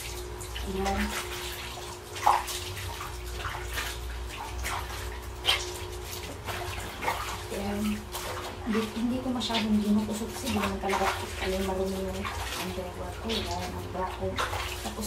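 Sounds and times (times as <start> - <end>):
water sloshing in a basin: 0.0 - 15.0.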